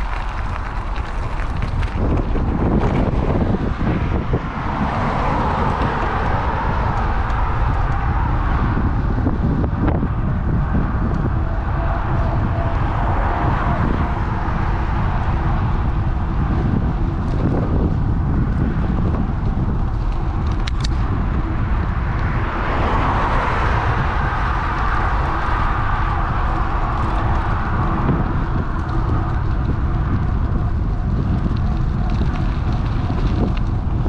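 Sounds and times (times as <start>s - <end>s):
road traffic: 0.0s - 34.0s
wind rushing over microphone: 0.0s - 34.0s.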